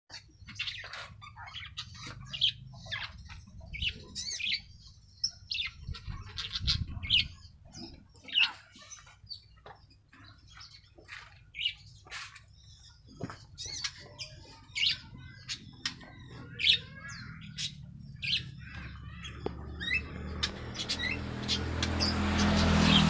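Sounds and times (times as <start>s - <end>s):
birds chirping and calling: 0.1s - 23.0s.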